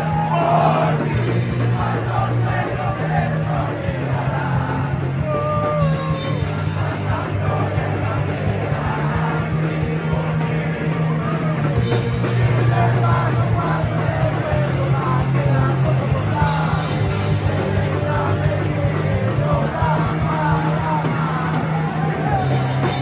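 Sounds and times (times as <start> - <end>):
bass guitar: 0.0 - 23.0
distorted electric guitars: 0.0 - 23.0
drum kit: 0.0 - 23.0
faint singing: 0.0 - 23.0.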